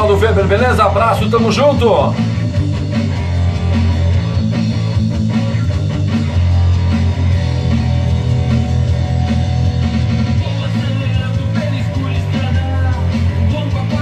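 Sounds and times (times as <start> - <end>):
rock music with electric guitar: 0.0 - 14.0.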